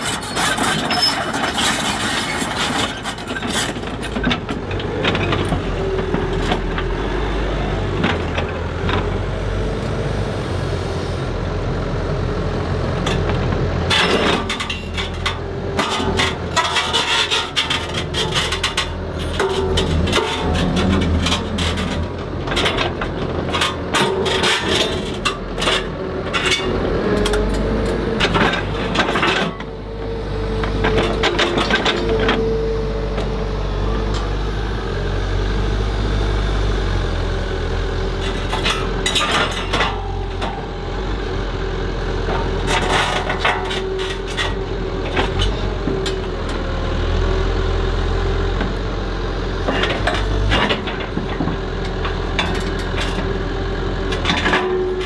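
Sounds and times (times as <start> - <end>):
excavator engine hum: 0.0 - 55.0.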